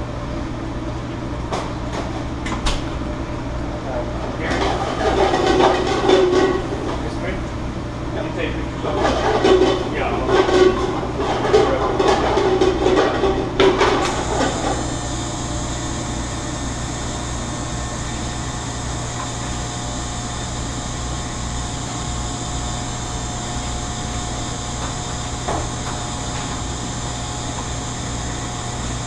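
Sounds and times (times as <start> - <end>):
kitchen ventilation hum: 0.0 - 29.0
steady whining tones: 3.9 - 29.0.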